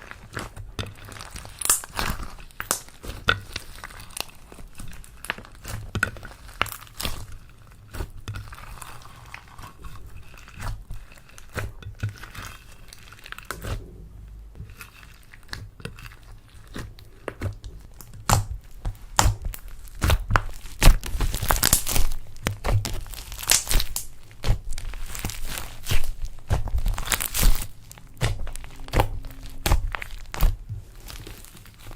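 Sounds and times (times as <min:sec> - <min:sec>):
slime squishing and popping: 0:00.0 - 0:31.9.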